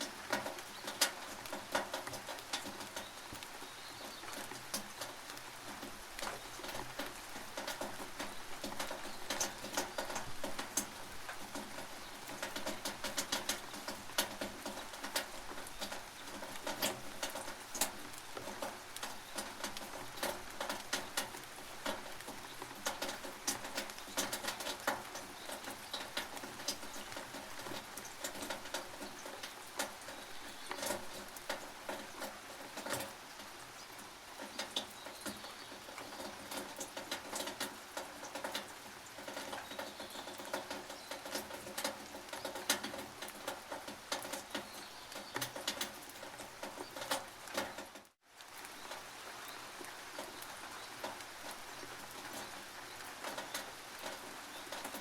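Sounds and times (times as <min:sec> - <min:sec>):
drops ticking on metal roof: 0:00.0 - 0:48.2, 0:50.1 - 0:55.0
rain hissing: 0:00.0 - 0:55.0.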